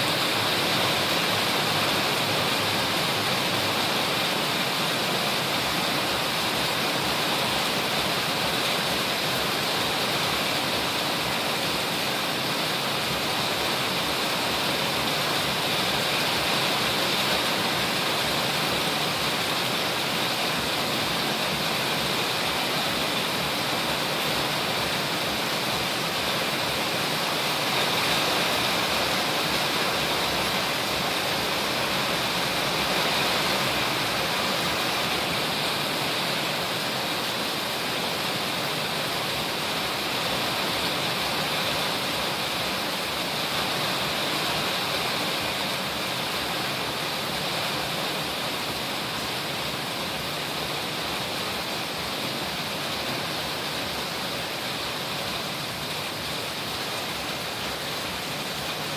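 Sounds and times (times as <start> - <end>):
heavy rain pouring: 0.0 - 58.9.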